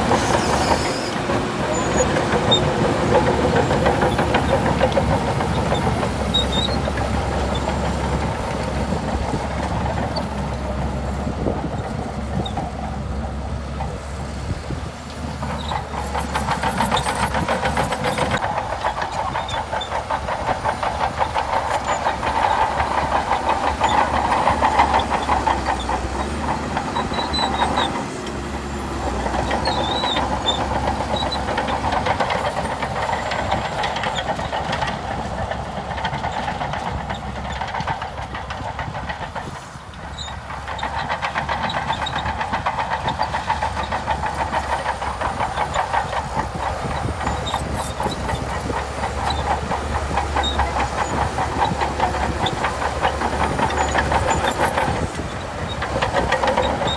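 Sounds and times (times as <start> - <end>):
bulldozer diesel engine under load: 0.0 - 56.9
steel tracks clattering: 0.0 - 56.9.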